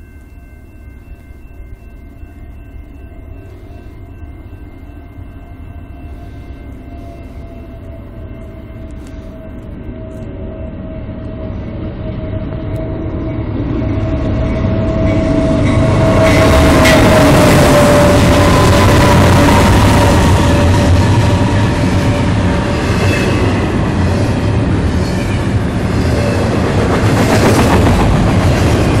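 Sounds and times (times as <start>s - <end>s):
freight train rumble: 0.0s - 29.0s
steady whine: 0.0s - 29.0s.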